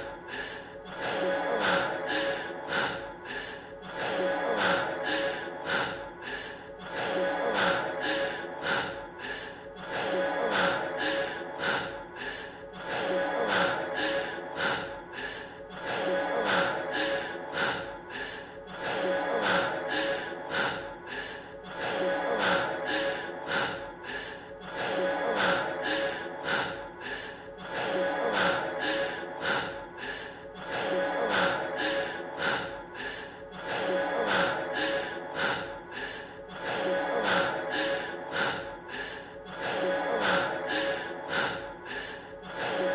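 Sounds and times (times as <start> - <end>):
man panting heavily: 0.0 - 42.9.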